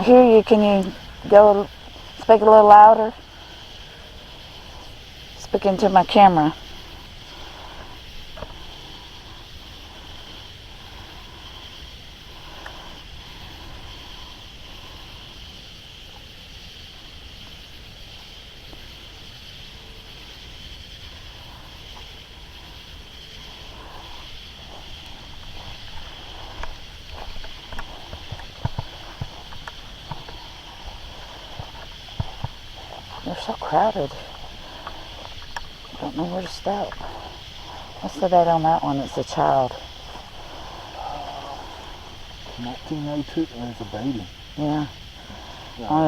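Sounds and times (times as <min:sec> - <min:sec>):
faint ticks: 0:00.0 - 0:46.0
night insects buzzing: 0:00.0 - 0:46.0
wind rumble: 0:00.0 - 0:46.0.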